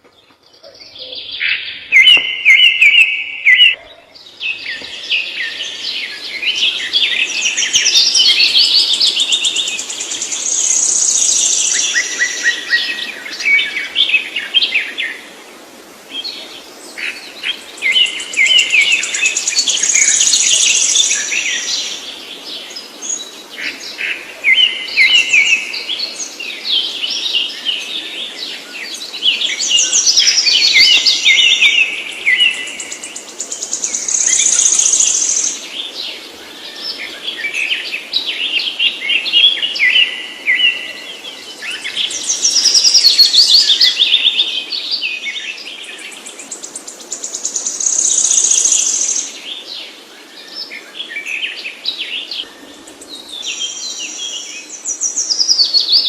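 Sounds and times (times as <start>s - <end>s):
birdsong chirps and trills: 0.0s - 56.0s.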